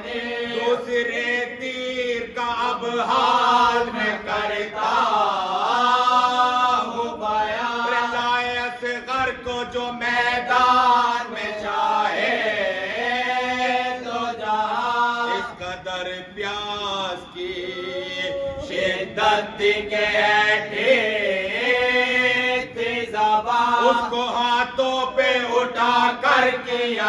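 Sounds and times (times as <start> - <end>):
men singing along: 0.0 - 27.0
man chanting into microphone: 0.2 - 27.0.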